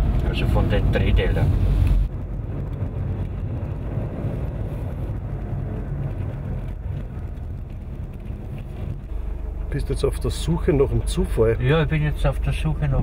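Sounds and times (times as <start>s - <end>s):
car interior engine and road rumble: 0.0s - 13.0s.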